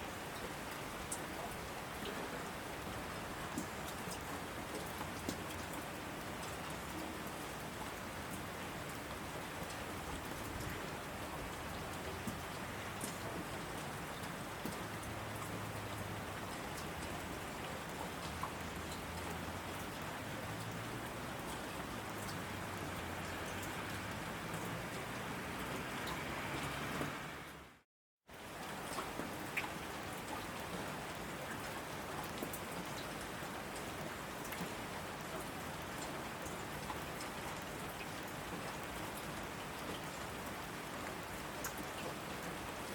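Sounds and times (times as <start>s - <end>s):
heavy rain on asphalt: 0.0s - 42.9s.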